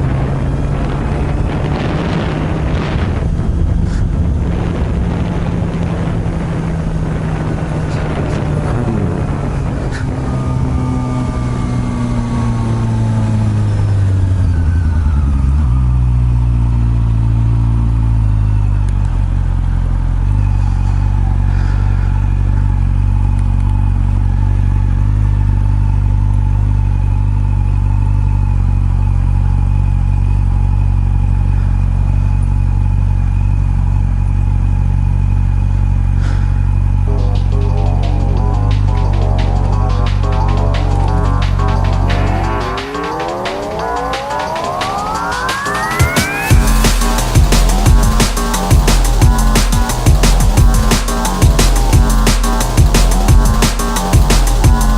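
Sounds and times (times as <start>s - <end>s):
motorcycle engine idling: 5.9s - 42.6s, 46.5s - 54.9s.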